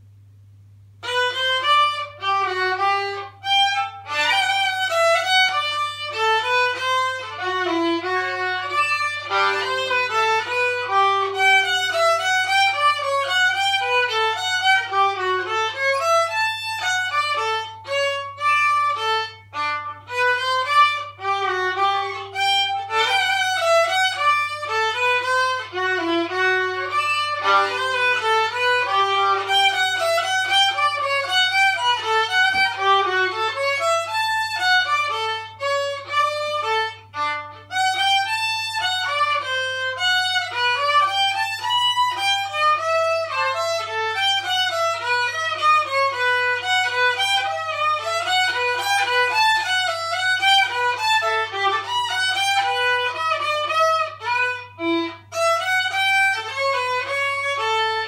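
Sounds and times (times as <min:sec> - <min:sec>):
solo violin melody: 0:01.0 - 0:58.0.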